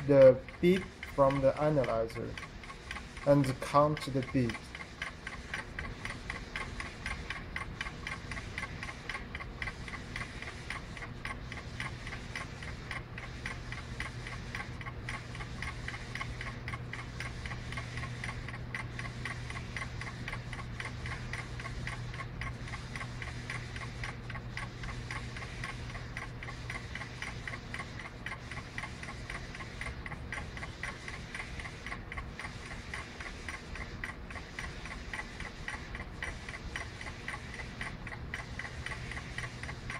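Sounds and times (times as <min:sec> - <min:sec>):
stir bar ticking in beaker: 0:00.0 - 0:39.9.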